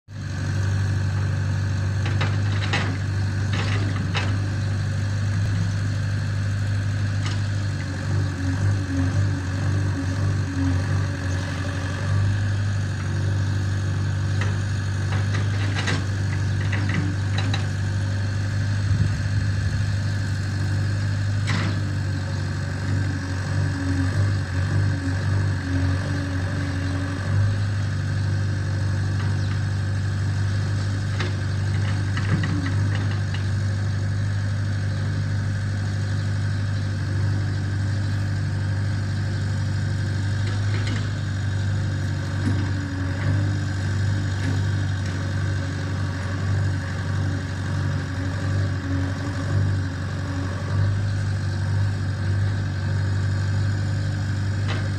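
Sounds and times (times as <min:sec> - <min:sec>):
diesel engine running: 0:00.1 - 0:54.9.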